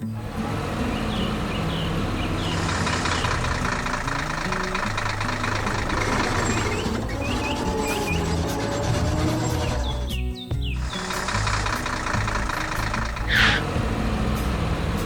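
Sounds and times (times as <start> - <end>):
birds chirping: 0.0 - 15.0
heavy equipment engine chugging: 0.0 - 15.0
light background music: 0.0 - 15.0.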